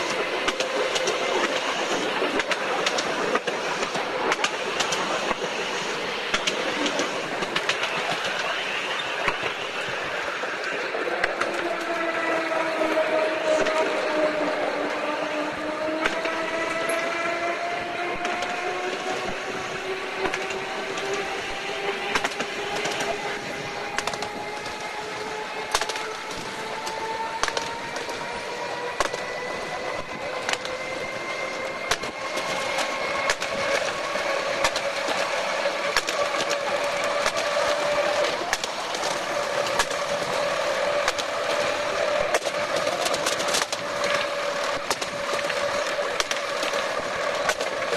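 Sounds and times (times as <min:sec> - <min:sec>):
tram motors whining: 0:00.0 - 0:47.9
wheels clicking over rail joints: 0:00.0 - 0:47.9.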